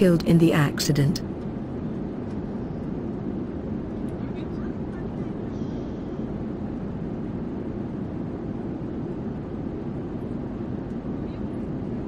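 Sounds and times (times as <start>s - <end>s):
aircraft rumble: 0.0s - 12.0s.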